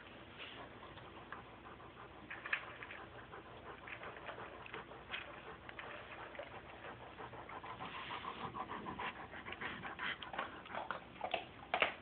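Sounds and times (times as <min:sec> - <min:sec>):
puppy panting: 0:00.0 - 0:12.0.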